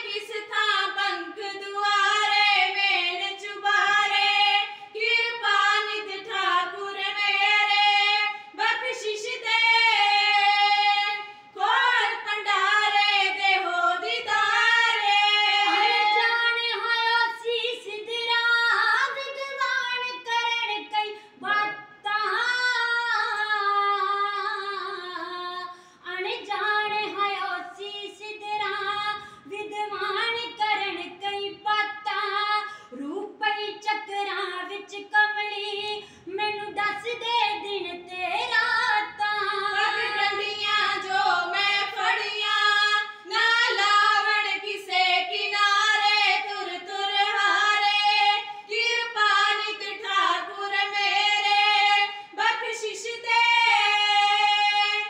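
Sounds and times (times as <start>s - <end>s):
women singing devotional verse: 0.0s - 55.0s.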